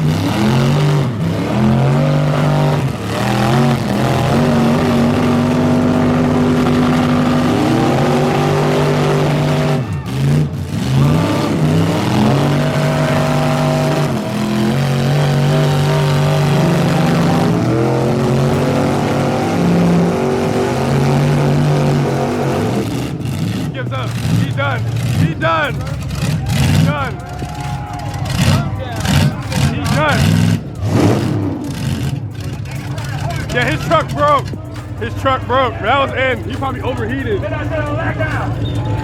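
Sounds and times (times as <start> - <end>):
truck engine revving hard: 0.0 - 39.0.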